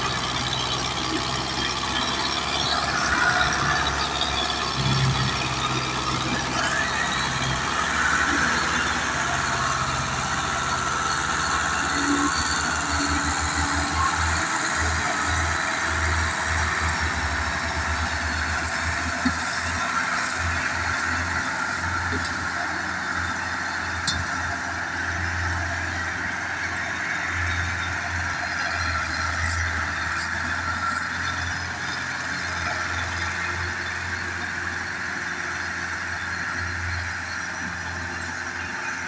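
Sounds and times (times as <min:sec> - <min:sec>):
diesel tractor engines under load: 0:00.0 - 0:39.0.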